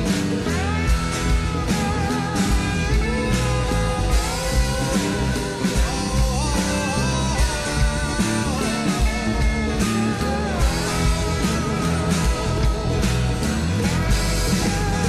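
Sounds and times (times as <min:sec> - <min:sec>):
rock band playing: 0:00.0 - 0:15.0
sliding guitar lead line: 0:00.0 - 0:15.0.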